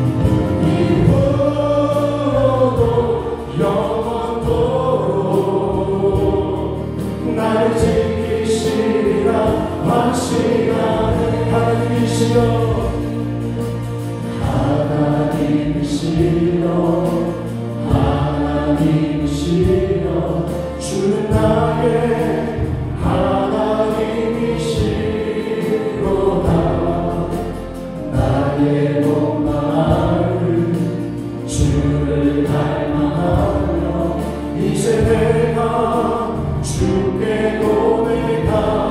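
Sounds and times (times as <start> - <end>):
bass guitar: 0.0 - 38.9
drums: 0.0 - 38.9
keyboards: 0.0 - 38.9
voices singing a hymn: 0.0 - 38.9.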